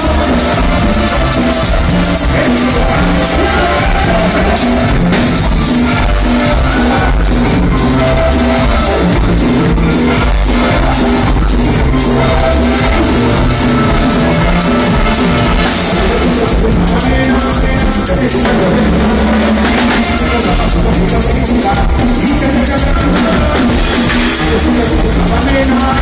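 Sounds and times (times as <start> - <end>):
live band playing: 0.0 - 26.0
person singing: 0.0 - 26.0.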